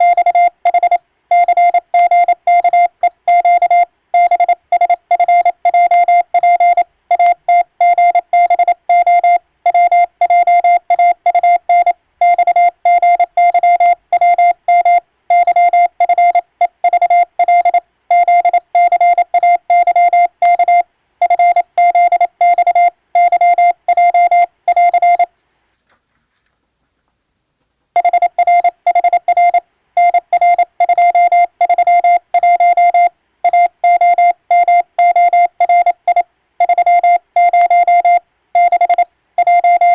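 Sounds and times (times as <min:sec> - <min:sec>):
morse code beeps: 0:00.0 - 0:25.3, 0:28.0 - 0:39.9.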